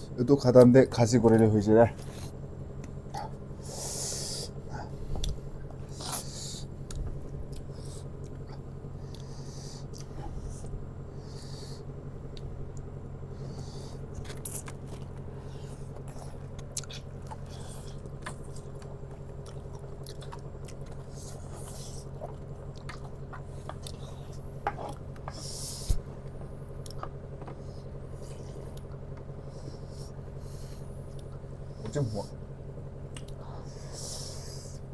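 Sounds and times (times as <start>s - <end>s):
steady low hum: 0.0s - 34.9s
people chewing noodles: 2.0s - 34.9s.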